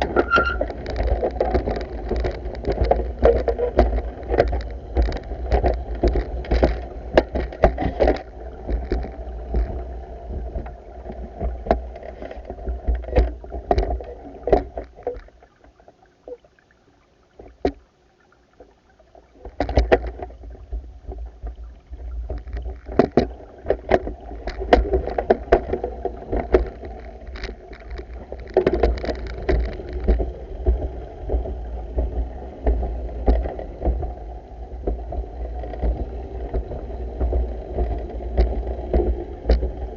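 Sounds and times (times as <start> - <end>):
sharp clicks and knocks: 0.0 - 15.4, 19.4 - 20.4, 22.3 - 34.2, 34.8 - 39.9.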